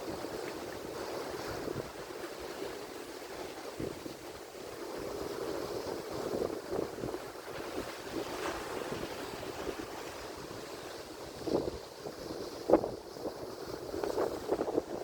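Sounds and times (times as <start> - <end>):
waves breaking: 0.0 - 15.0
wind buffeting microphone: 0.0 - 15.0.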